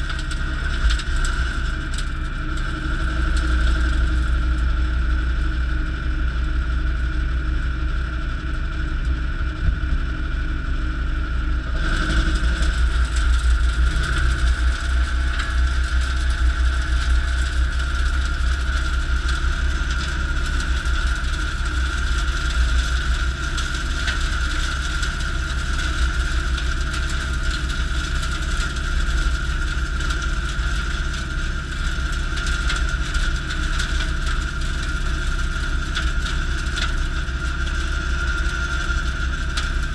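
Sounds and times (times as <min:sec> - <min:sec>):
rotary cutter spinning whine: 0:00.0 - 0:39.9
tractor diesel engine under load: 0:00.0 - 0:39.9.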